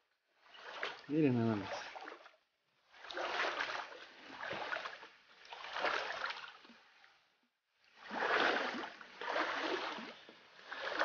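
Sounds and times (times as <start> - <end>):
footsteps wading through water: 0.4 - 11.0.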